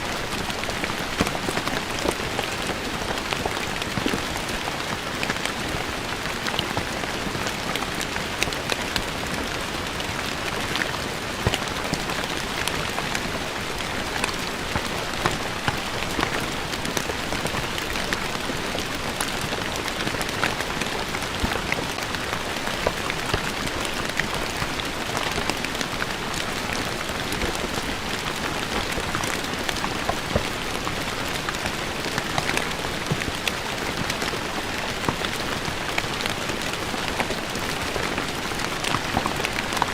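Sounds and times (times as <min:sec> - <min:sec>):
rain on stone paving: 0:00.0 - 0:39.9.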